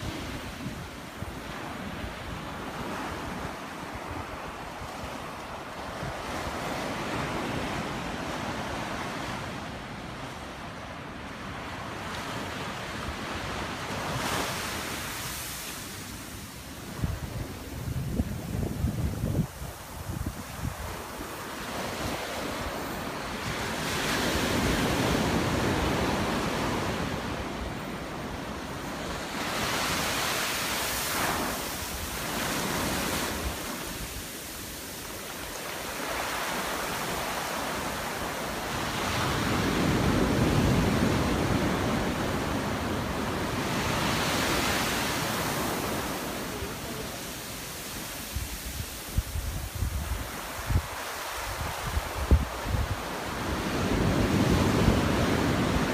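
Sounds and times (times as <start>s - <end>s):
surf washing up a beach: 0.0s - 55.9s.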